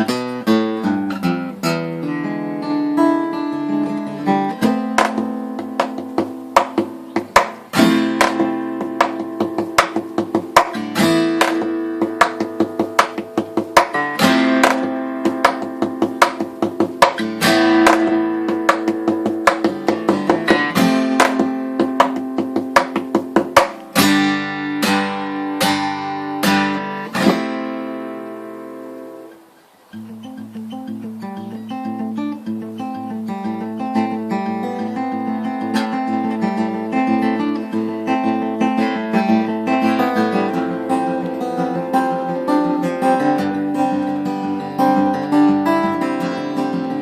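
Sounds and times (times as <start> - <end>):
fingerstyle acoustic guitar: 0.0 - 47.0.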